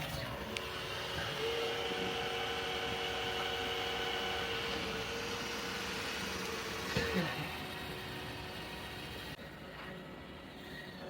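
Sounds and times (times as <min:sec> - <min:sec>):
robot vacuum running: 0:00.0 - 0:09.4.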